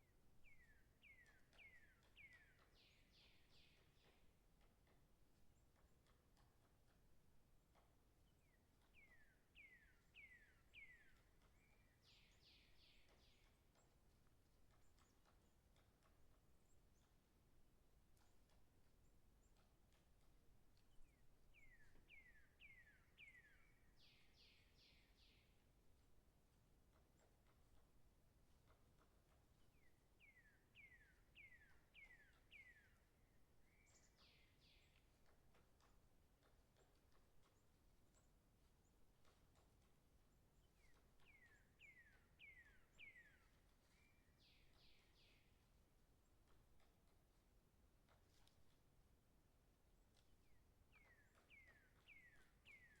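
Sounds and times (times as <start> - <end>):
distant birdsong descending notes: 0.0 - 53.0
woodpecker pecking ticks: 0.0 - 53.0.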